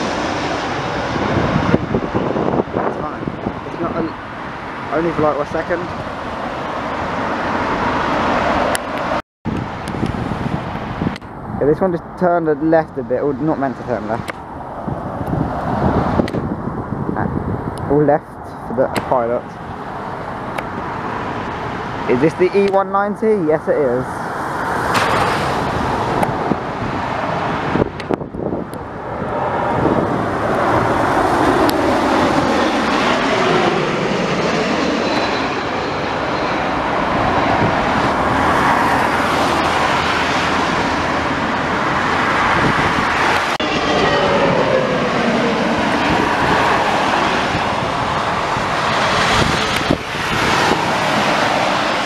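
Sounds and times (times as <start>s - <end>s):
jet airliner passing low: 0.0s - 52.0s.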